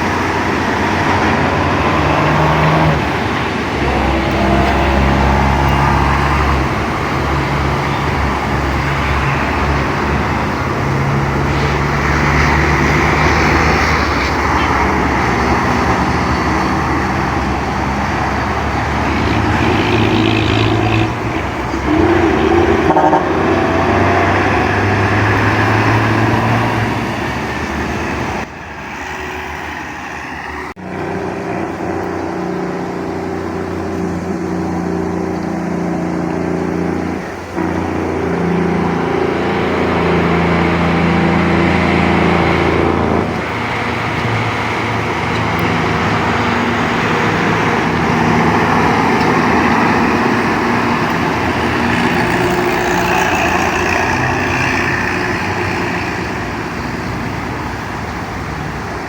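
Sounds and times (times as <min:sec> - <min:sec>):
heavy truck engines running: 0:00.0 - 0:59.0.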